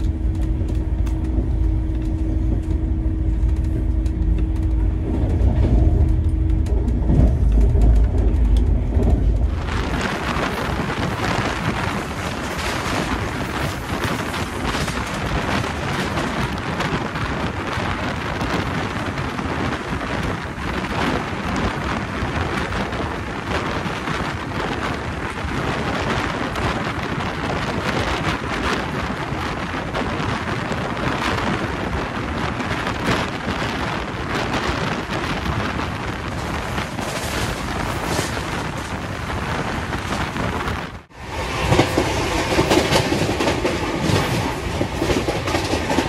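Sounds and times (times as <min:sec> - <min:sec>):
track knocks: 0:00.0 - 0:25.4, 0:32.6 - 0:46.0
train wheels rushing on rails: 0:00.0 - 0:46.0.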